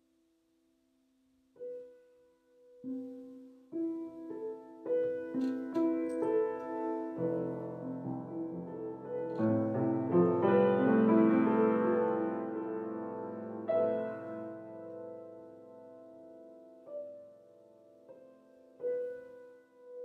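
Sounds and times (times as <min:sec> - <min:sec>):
slow solo piano: 0:01.4 - 0:20.0.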